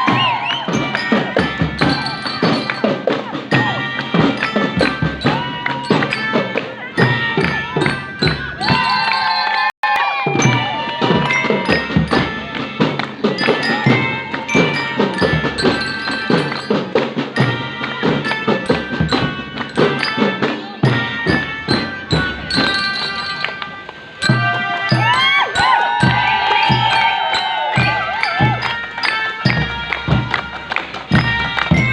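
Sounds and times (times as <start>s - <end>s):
bell-like melody: 0.0s - 9.4s, 10.3s - 31.9s.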